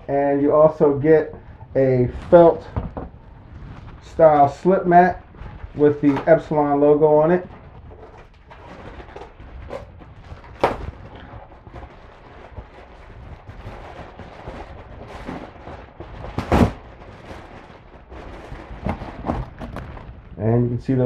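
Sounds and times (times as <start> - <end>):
plastic bag crinkling: 0.0 - 20.4.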